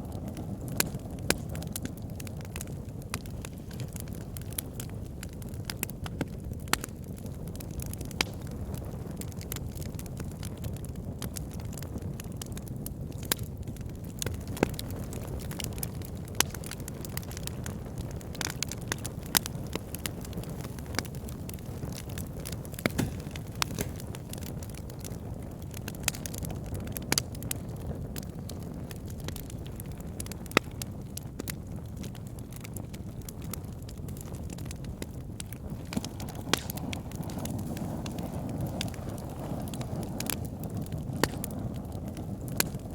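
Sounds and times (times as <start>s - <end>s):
low rumble of flames: 0.0s - 42.9s
wood crackling and popping: 0.0s - 42.9s.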